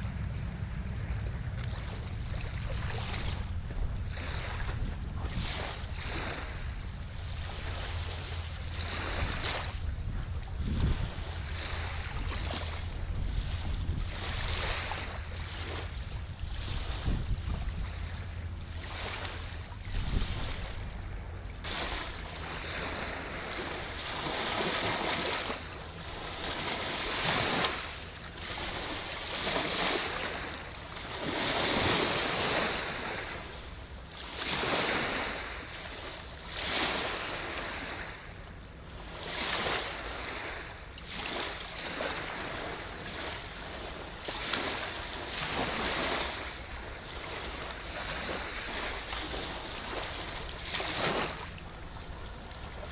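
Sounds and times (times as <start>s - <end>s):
low steady rumble: 0.0s - 52.9s
water washing against riverbank: 0.0s - 52.9s.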